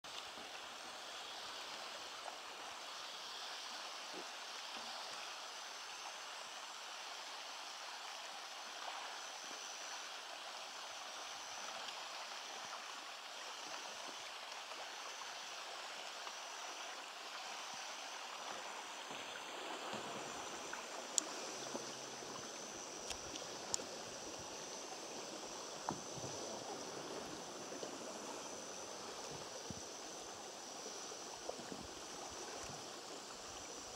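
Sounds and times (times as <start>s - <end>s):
river water hiss: 0.0s - 33.9s.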